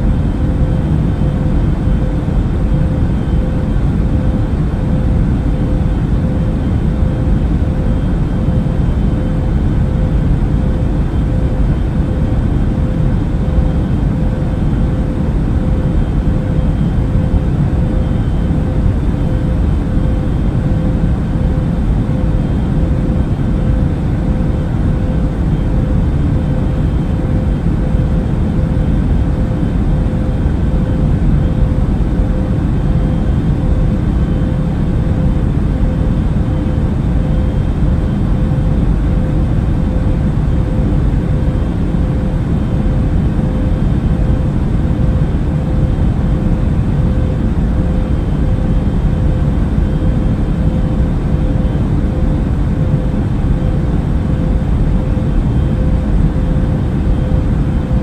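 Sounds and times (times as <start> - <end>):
airplane cabin drone: 0.0 - 58.0
faint steady hum: 0.0 - 58.0.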